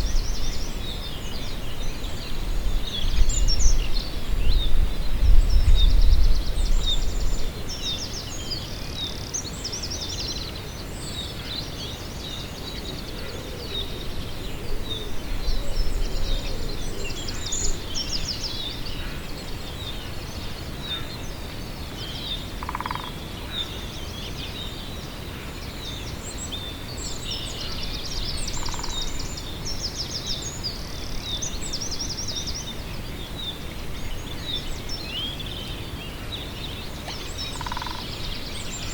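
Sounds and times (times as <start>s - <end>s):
small birds trilling and chirping: 0.0s - 38.9s.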